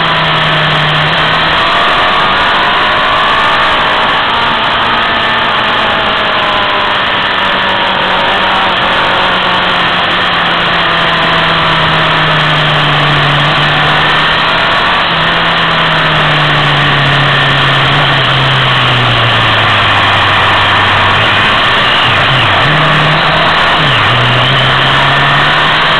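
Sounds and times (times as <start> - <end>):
motorcycle engine running: 0.0 - 25.9
road and wind noise: 0.0 - 25.9.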